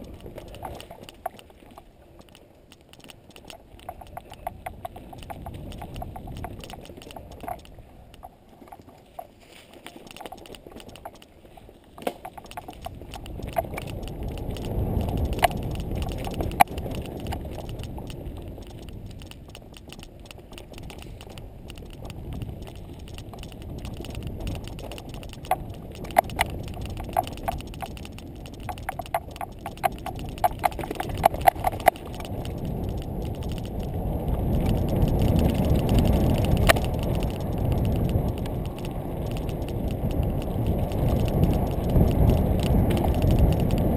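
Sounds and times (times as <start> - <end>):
rattling clicks: 0.0 - 43.9
sharp clicks: 0.0 - 43.9
wind rumble on camera: 0.0 - 43.9.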